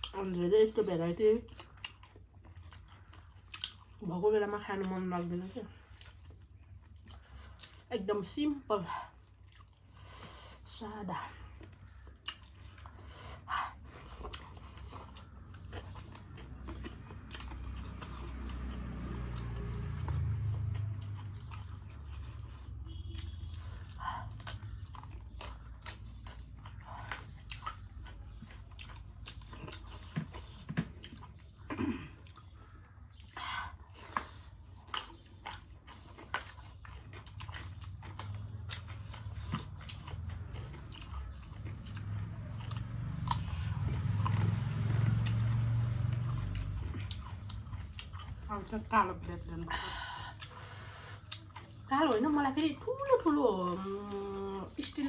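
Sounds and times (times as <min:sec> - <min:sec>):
chewing and mouth smacks: 0:00.0 - 0:55.0.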